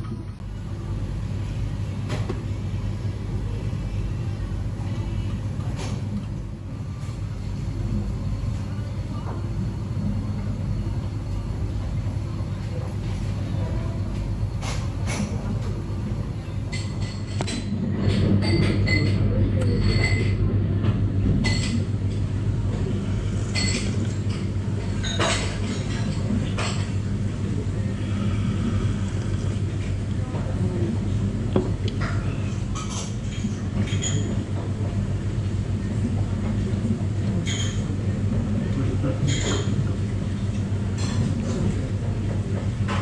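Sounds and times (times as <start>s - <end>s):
low rumbling background noise: 0.0s - 43.0s
low steady hum: 0.0s - 43.0s.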